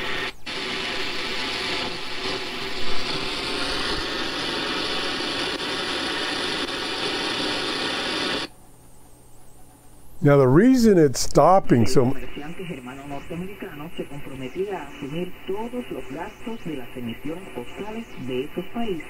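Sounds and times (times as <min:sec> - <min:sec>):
weak radio station in static: 0:00.0 - 0:08.5, 0:09.8 - 0:19.0
quiet radio hiss: 0:00.0 - 0:19.0.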